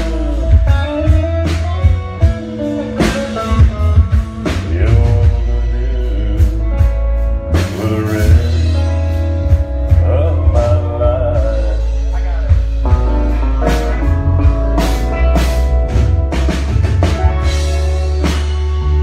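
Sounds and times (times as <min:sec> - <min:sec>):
heavy bass line: 0:00.0 - 0:19.0
live band playing amplified music: 0:00.0 - 0:19.0.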